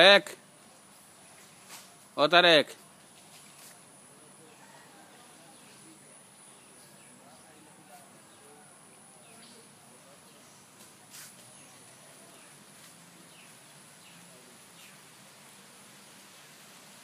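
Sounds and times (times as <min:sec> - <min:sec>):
high-pitched whine and hiss: 0:00.0 - 0:17.0.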